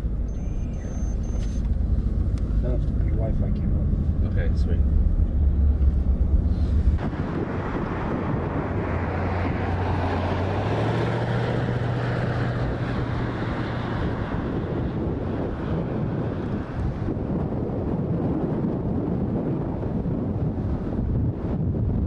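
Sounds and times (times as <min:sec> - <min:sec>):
vehicle engine hum: 0:00.0 - 0:22.0
wind noise on microphone: 0:00.2 - 0:22.0.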